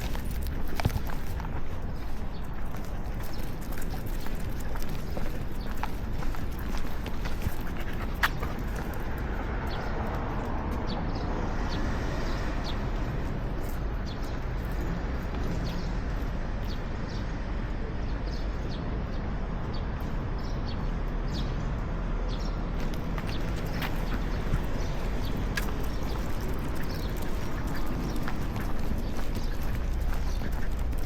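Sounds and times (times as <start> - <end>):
low street rumble: 0.0 - 31.0.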